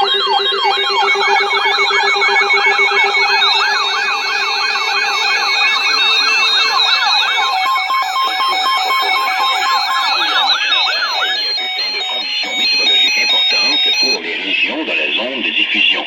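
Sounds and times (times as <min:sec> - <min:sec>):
on-off beeping tones: 0:00.0 - 0:14.2
siren-like rising sweeps: 0:00.0 - 0:14.2.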